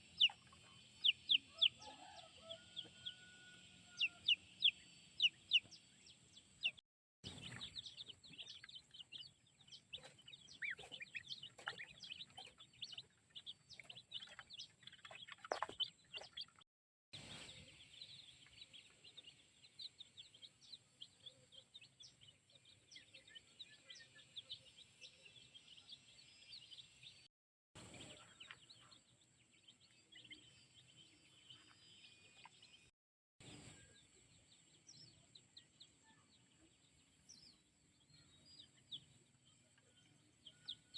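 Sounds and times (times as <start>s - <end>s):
birds chirping and peeping: 0.0s - 16.6s, 17.2s - 40.9s.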